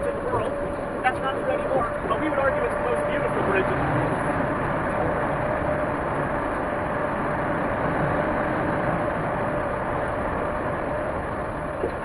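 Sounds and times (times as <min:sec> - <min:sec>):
road and engine noise in cabin: 0:00.0 - 0:12.0.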